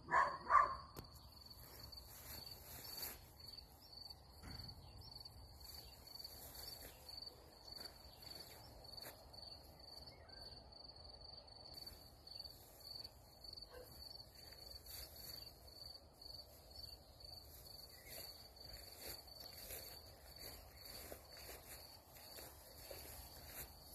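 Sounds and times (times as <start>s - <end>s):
cricket chirping: 0.0s - 23.9s.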